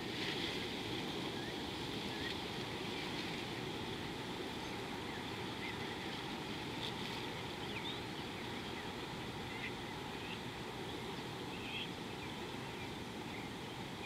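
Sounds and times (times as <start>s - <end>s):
wind-like outdoor noise: 0.0s - 14.0s.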